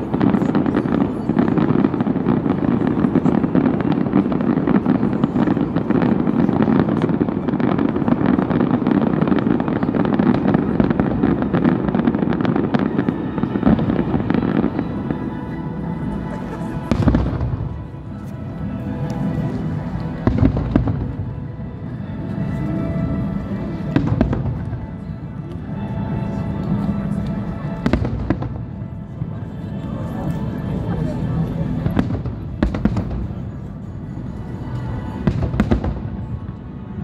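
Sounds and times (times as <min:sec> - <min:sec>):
fireworks crackling: 0:00.0 - 0:37.0.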